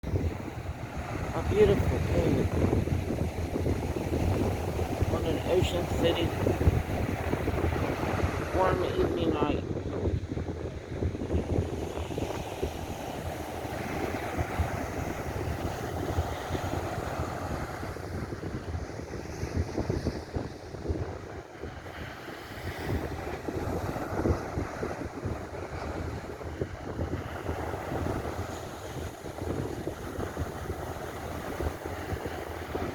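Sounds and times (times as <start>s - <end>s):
ocean surf washing: 0.0s - 32.9s
wind buffeting microphone: 0.0s - 32.9s.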